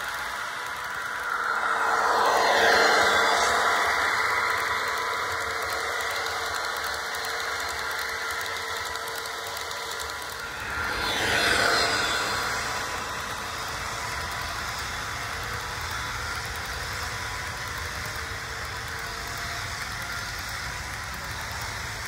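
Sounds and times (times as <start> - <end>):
model train motor: 0.0 - 22.0.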